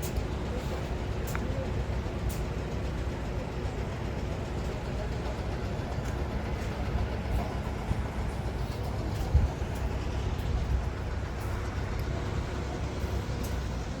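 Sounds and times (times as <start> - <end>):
rumble of traffic: 0.0 - 14.0.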